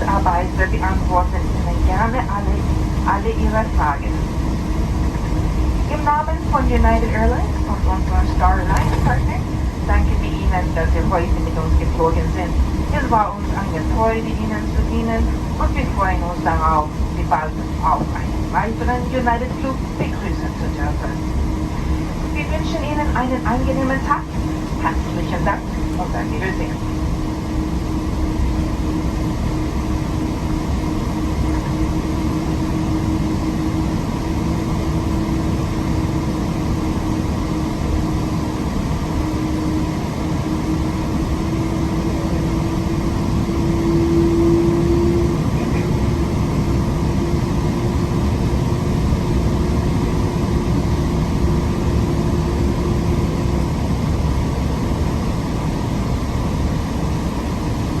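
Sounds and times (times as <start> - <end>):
airplane cabin airflow and engine hum: 0.0 - 58.0
low whine: 0.0 - 58.0.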